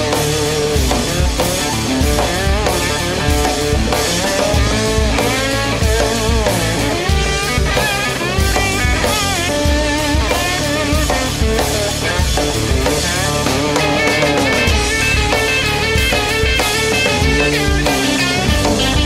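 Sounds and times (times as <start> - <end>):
bass guitar: 0.0 - 19.0
drum beat: 0.0 - 19.0
electric guitar bending notes: 0.0 - 19.0.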